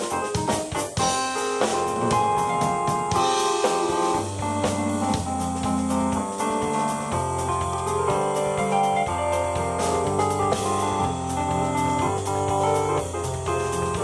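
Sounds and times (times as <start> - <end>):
drum kit hits: 0.0 - 14.0
keyboard chords: 1.0 - 14.0
bass line: 1.7 - 3.4, 4.1 - 14.0.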